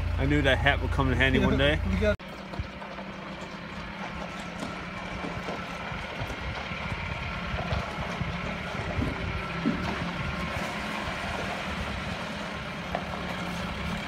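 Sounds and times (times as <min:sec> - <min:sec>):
diesel engine driving: 0:00.0 - 0:14.0
rattles and ride noise: 0:00.0 - 0:14.0.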